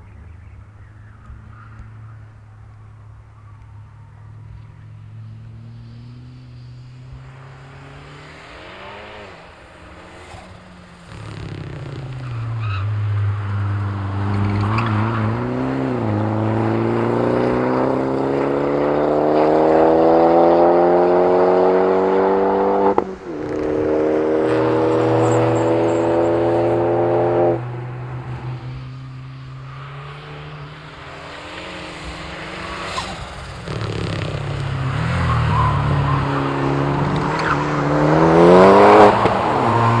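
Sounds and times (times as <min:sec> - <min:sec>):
turbo car engine pulling hard: 0:00.0 - 0:40.0.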